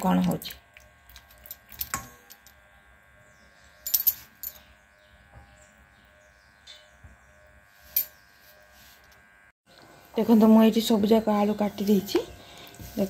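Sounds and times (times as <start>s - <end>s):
faint tonal hum: 0.0s - 13.0s.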